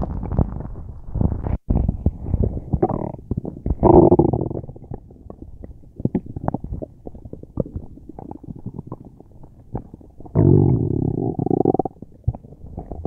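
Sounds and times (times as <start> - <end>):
stomach rumbling and gurgling: 0.0 - 13.0.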